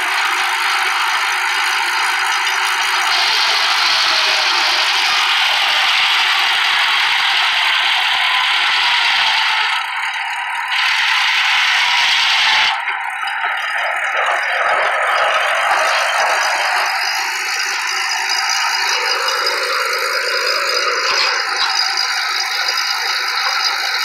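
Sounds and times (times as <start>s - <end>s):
sawmill circular saw running: 0.0s - 24.0s.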